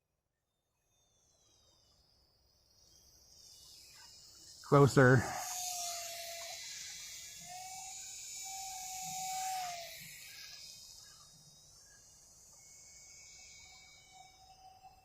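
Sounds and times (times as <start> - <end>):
crickets chirping: 0.5 - 15.0
model plane motor whining: 2.9 - 15.0.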